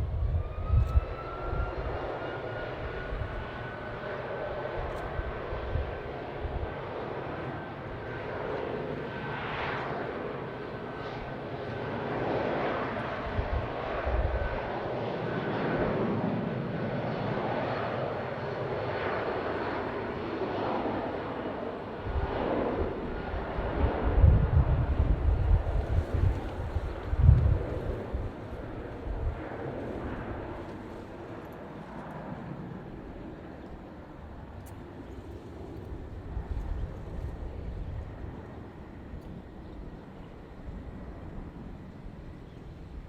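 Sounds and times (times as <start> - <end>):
jet engine whine: 0.0 - 43.0.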